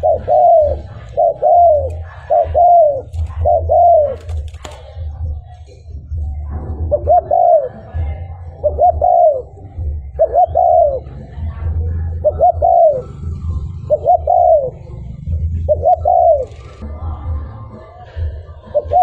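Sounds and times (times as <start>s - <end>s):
dove cooing: 0.0s - 5.5s, 6.2s - 16.8s, 18.2s - 19.0s.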